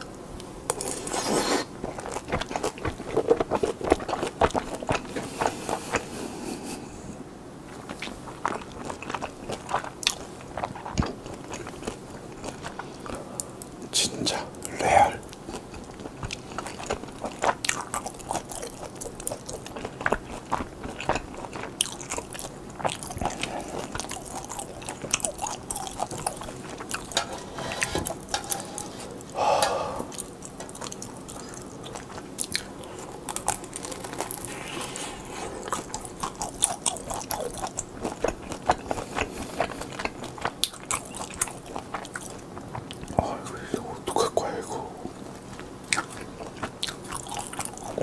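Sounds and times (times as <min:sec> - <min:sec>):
chewing and biting: 0:00.7 - 0:06.2, 0:07.7 - 0:13.3, 0:15.3 - 0:29.4, 0:30.0 - 0:43.4, 0:45.1 - 0:48.0.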